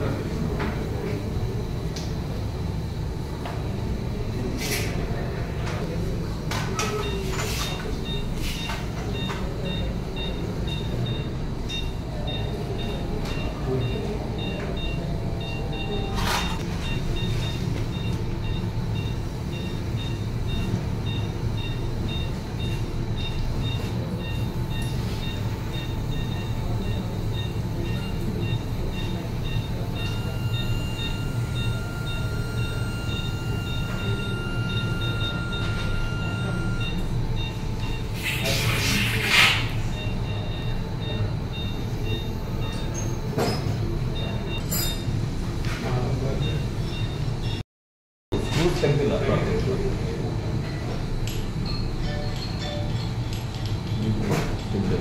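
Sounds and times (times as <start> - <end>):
patient monitor beeping: 0.0 - 47.6, 48.4 - 54.8.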